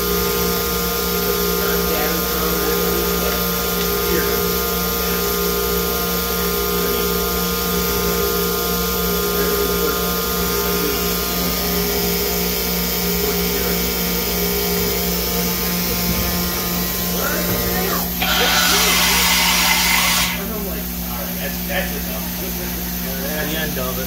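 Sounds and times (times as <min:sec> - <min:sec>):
machining centre humming and whining: 0:00.0 - 0:24.0.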